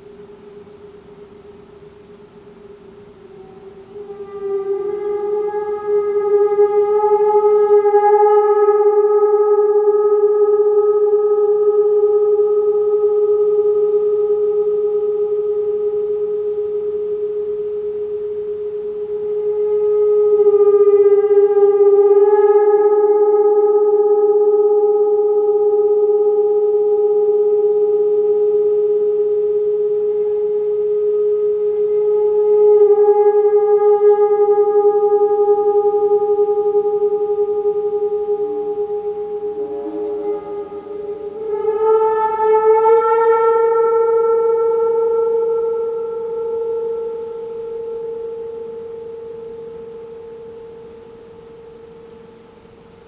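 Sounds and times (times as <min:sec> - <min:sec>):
meditation bowl ringing: 0:00.0 - 0:53.0.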